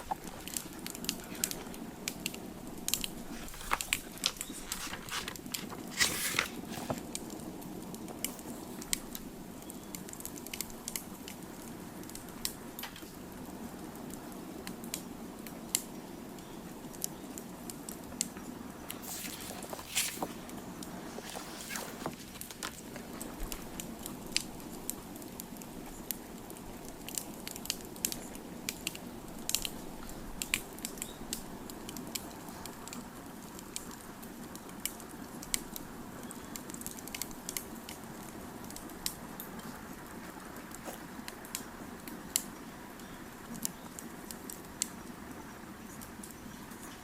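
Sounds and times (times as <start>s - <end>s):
campfire crackling: 0.0s - 47.0s
low rush of burning wood: 0.0s - 47.0s.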